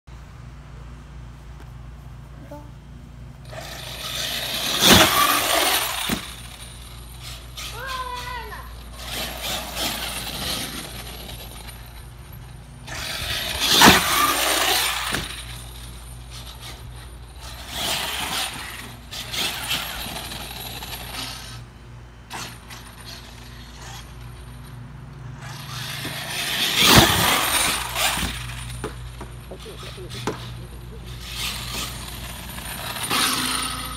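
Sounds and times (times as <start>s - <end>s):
electric rc truck motor accelerating: 3.4s - 33.9s.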